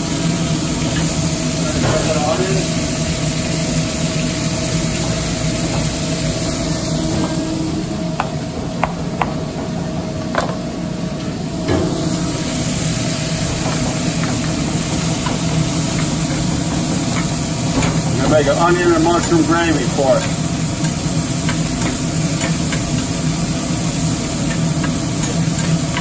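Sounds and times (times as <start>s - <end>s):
meat sizzling in a pan: 0.0s - 7.8s, 11.9s - 26.0s
steady mechanical hum: 0.0s - 26.0s.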